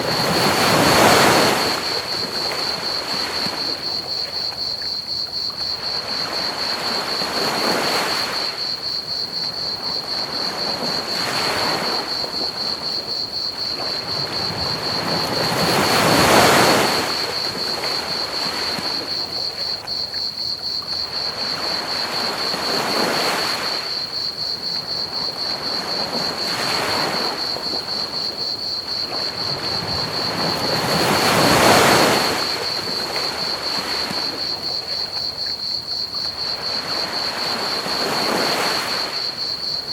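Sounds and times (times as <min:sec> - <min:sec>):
crickets chirping: 0:00.0 - 0:39.9
ocean waves washing onto beach: 0:00.0 - 0:39.9.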